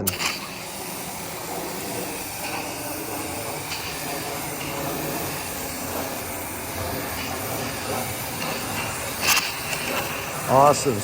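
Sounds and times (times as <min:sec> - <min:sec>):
foam gun spraying foam: 0:00.0 - 0:11.0.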